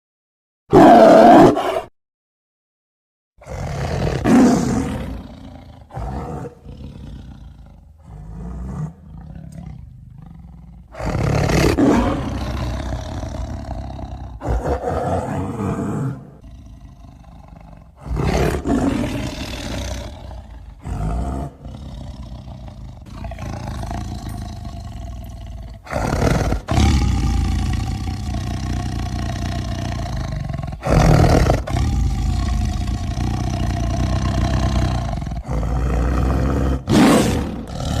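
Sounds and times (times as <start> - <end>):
tiger roaring and growling: 0.7 - 1.9, 3.4 - 38.0.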